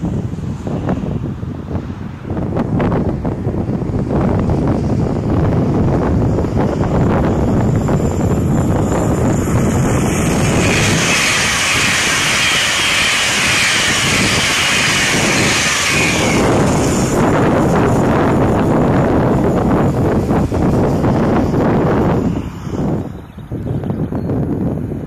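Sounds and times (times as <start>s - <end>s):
electric train passing at speed: 0.0s - 25.0s
wind buffeting microphone: 0.0s - 25.0s.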